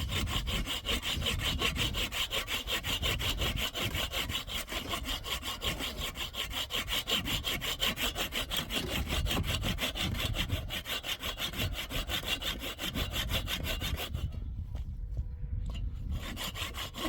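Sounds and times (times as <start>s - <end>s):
fast rasping strokes: 0.0s - 14.4s, 15.7s - 17.0s.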